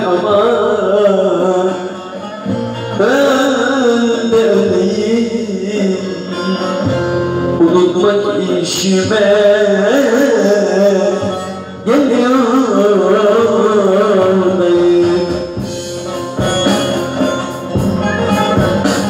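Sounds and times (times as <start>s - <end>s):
instrumental backing music: 0.0s - 19.0s
man singing into microphone: 0.0s - 19.0s.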